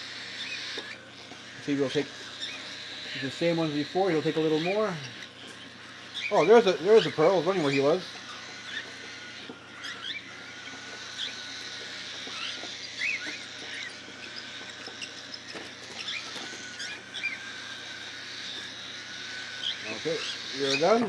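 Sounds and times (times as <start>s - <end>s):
chicks peeping and chirping: 0.0s - 21.0s.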